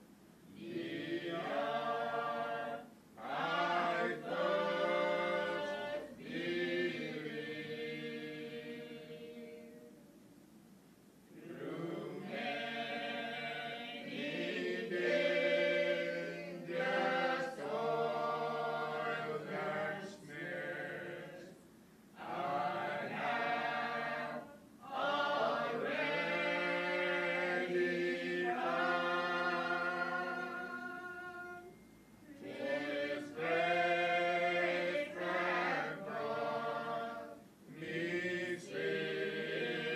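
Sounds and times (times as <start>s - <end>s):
choir singing: 0.5s - 10.1s, 11.4s - 21.6s, 22.2s - 39.9s.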